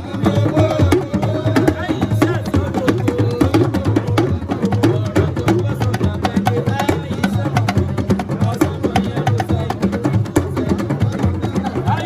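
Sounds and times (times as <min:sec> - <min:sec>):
fast drums and percussion: 0:00.0 - 0:12.0.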